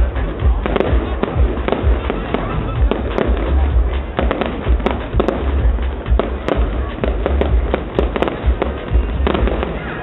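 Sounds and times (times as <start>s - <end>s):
steady low rumble: 0.0s - 9.8s
fireworks bangs and crackles: 0.0s - 10.0s.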